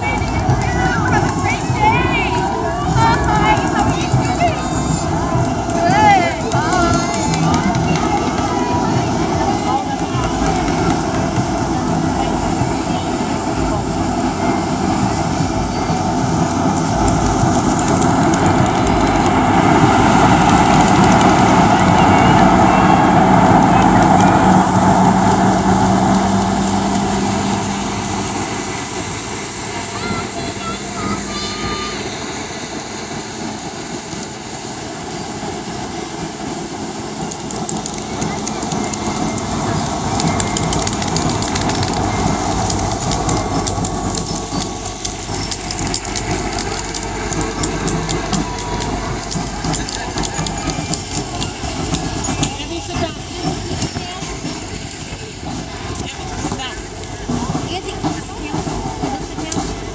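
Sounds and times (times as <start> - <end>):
diesel truck engine at low revs: 0.0 - 59.9.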